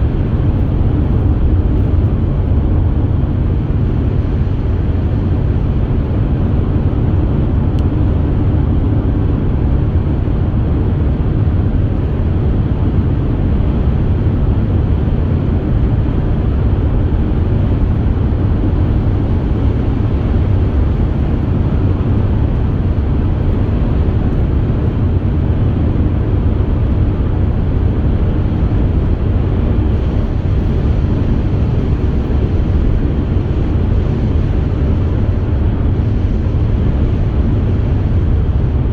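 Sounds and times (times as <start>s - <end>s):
low engine rumble: 0.0s - 38.9s
road noise inside car: 0.0s - 38.9s.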